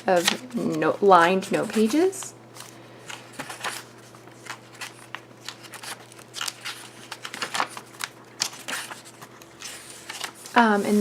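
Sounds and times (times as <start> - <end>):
paper pages flipping: 0.0 - 11.0.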